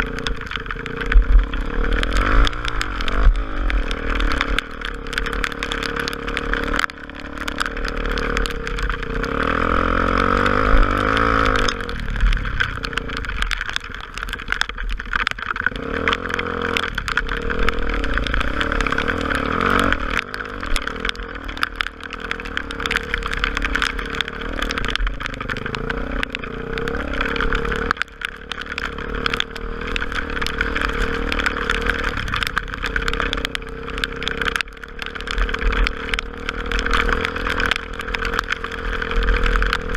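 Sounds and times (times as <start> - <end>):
motorcycle engine running: 0.0 - 39.9
sharp ticks: 0.0 - 39.9.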